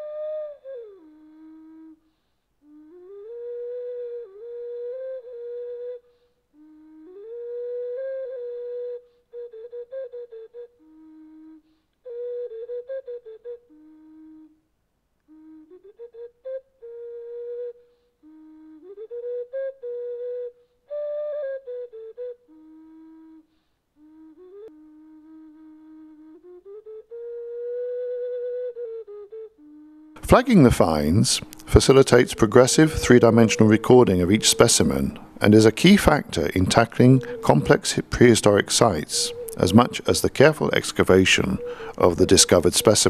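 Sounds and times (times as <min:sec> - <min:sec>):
slow flute-like melody: 0:00.0 - 0:43.0.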